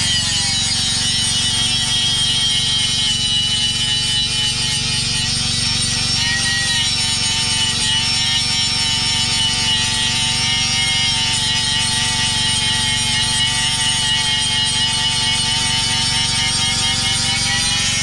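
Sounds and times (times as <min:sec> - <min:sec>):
angle grinder grinding metal: 0:00.0 - 0:18.0.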